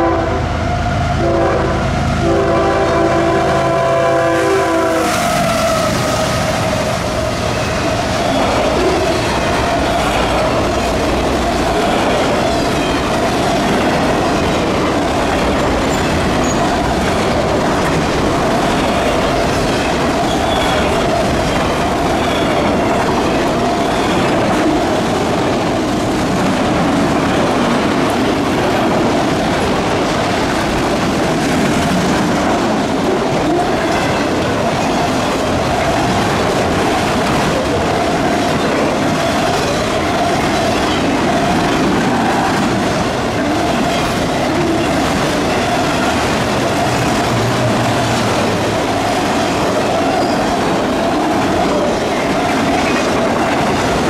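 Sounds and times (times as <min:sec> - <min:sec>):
train wheels rumbling and clattering: 0:00.0 - 0:54.0.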